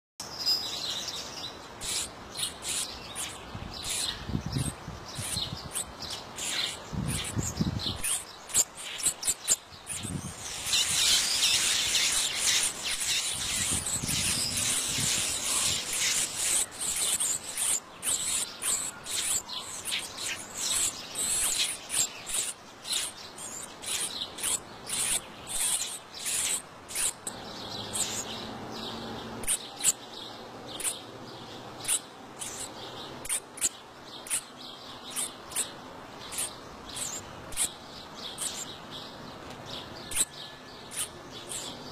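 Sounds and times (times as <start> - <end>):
nestlings begging chirps: 0.3 - 41.9.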